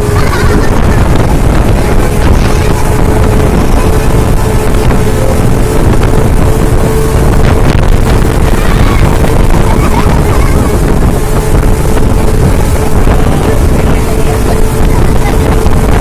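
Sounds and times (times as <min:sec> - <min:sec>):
outboard engine running: 0:00.0 - 0:16.0
wind buffeting microphone: 0:00.0 - 0:16.0.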